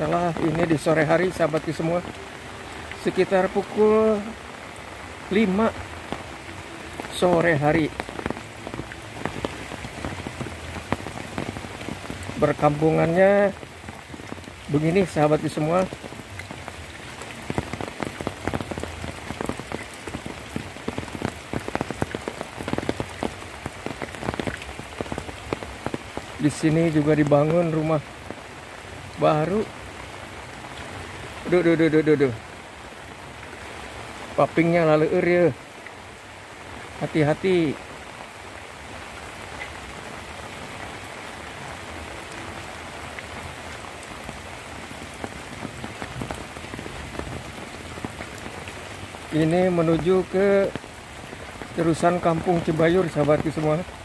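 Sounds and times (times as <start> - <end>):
heavy rain falling: 0.0 - 54.0
sharp raindrop strikes: 0.0 - 54.0.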